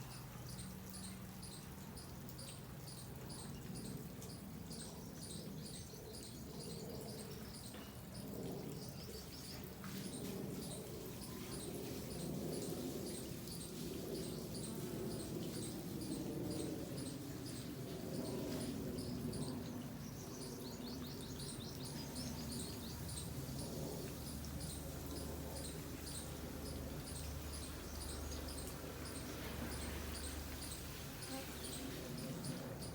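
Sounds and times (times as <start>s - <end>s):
small birds chirping: 0.0s - 32.9s
steady background hum: 0.0s - 32.9s.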